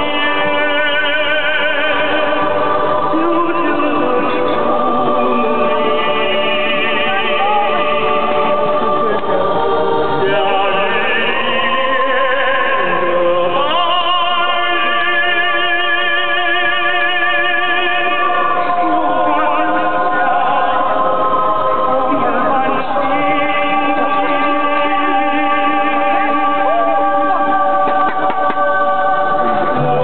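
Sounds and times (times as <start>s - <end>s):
choir singing held notes: 0.0s - 30.0s
music: 0.0s - 30.0s.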